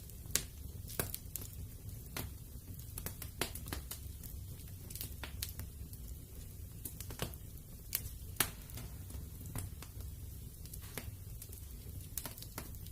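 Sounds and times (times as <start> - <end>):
low rumble of burning: 0.0 - 12.9
wood fire crackling: 0.0 - 12.9.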